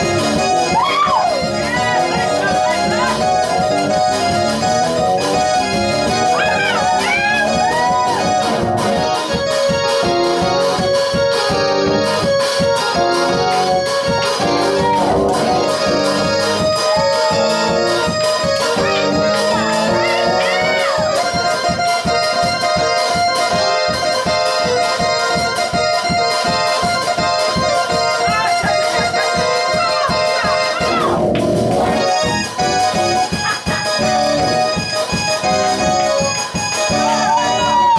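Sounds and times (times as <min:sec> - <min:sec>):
electronic keyboard organ chords: 0:00.0 - 0:37.9
rhythm of short hits: 0:00.0 - 0:37.9.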